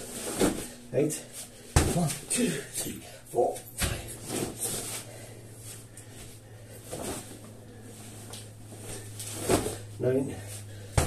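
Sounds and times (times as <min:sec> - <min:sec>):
low hum: 0:00.0 - 0:11.0
man breathing hard: 0:00.6 - 0:11.0.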